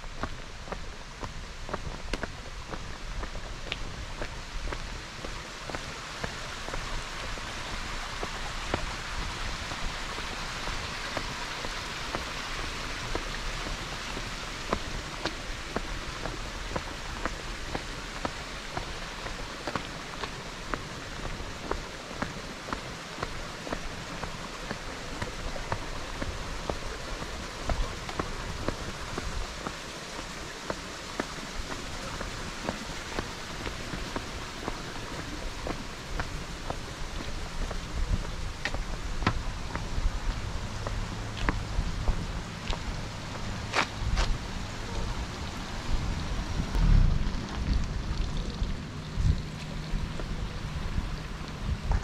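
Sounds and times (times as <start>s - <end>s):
footsteps on wet pavement: 0.0s - 52.0s
light rain hiss: 0.0s - 52.0s.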